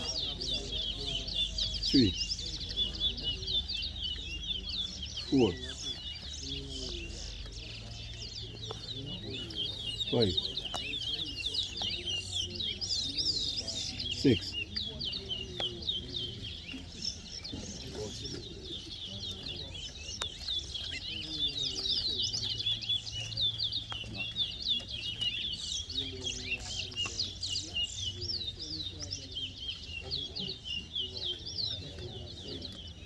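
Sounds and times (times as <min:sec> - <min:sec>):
finch singing high chirps: 0:00.0 - 0:33.0
murmur of voices: 0:00.0 - 0:33.0.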